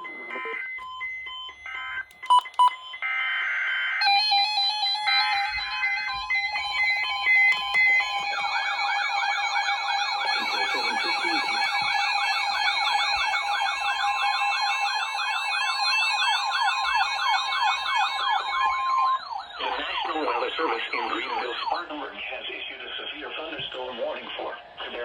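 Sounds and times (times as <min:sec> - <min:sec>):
electronic siren yelping: 0:00.0 - 0:21.9.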